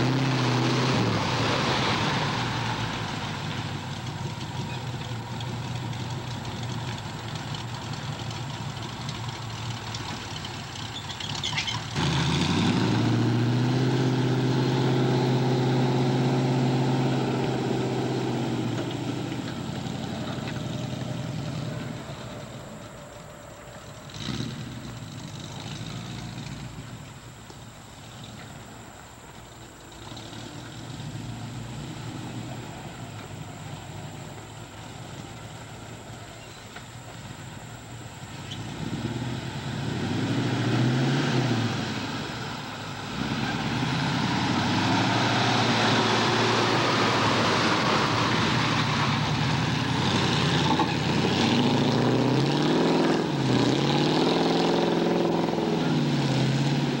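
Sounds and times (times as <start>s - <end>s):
pickup truck engine revving: 0.0s - 23.2s, 23.8s - 27.2s, 36.8s - 57.0s
tires spinning in mud: 0.0s - 57.0s.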